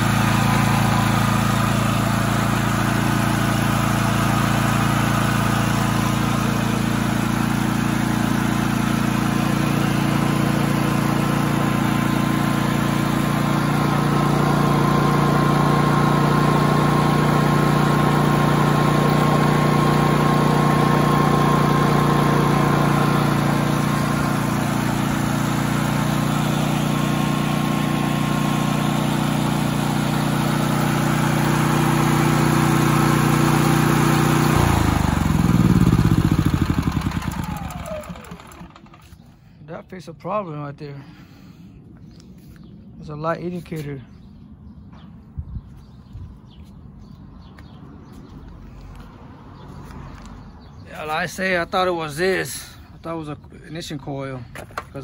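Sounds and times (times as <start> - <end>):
generator engine running: 0.0 - 55.0.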